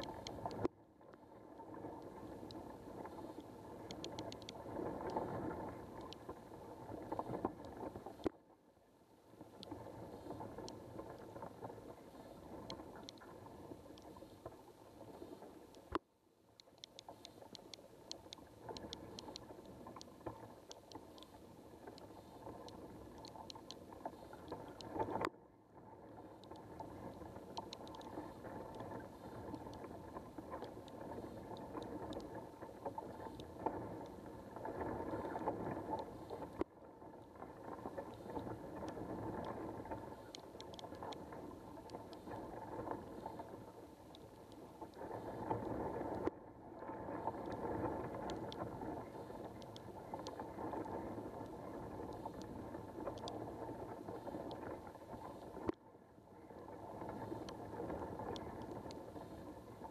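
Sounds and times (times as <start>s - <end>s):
small ticks: 0.0s - 8.4s, 9.3s - 25.3s, 26.0s - 55.8s, 56.4s - 59.9s.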